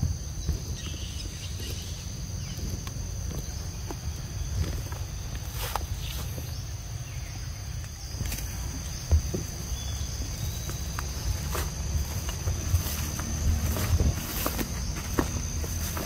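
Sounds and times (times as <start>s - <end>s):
low rumbling: 0.0s - 16.0s
footsteps through grass: 0.4s - 6.7s, 8.1s - 16.0s.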